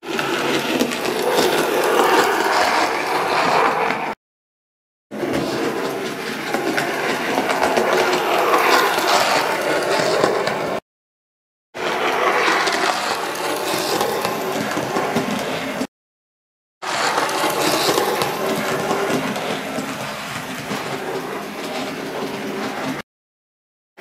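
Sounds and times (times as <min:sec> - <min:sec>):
model train whirring on track: 0:00.0 - 0:04.2, 0:05.2 - 0:10.8, 0:11.8 - 0:15.9, 0:16.8 - 0:23.0.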